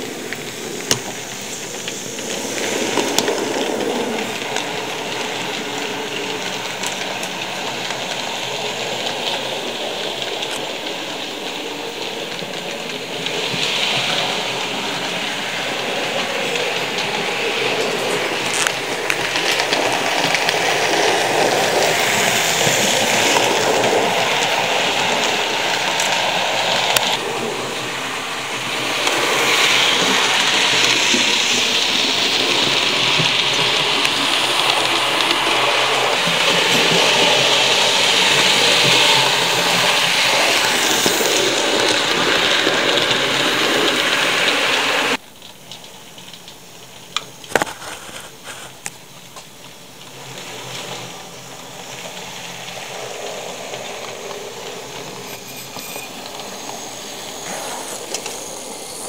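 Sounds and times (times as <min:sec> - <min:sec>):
model train rushing hiss: 0:00.0 - 0:45.2, 0:46.1 - 0:59.0
model train running rumble: 0:00.0 - 0:59.0.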